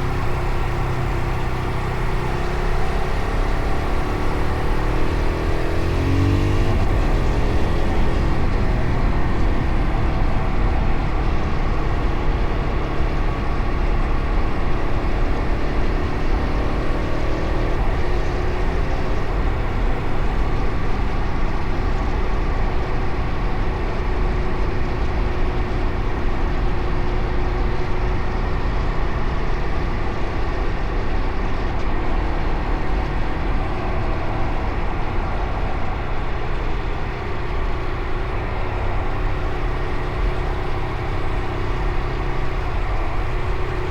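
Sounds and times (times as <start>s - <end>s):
motorcycle engine running: 0.0s - 43.9s
road and wind rumble: 0.0s - 43.9s.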